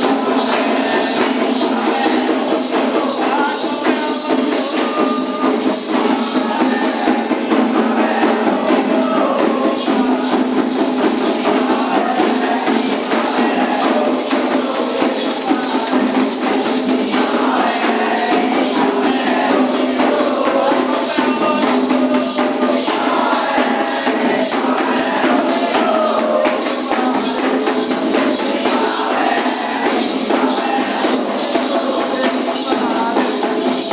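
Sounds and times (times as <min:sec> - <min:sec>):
hand percussion: 0:00.0 - 0:33.9
rattling shakers: 0:00.0 - 0:33.9
voices singing a chant: 0:00.0 - 0:33.9.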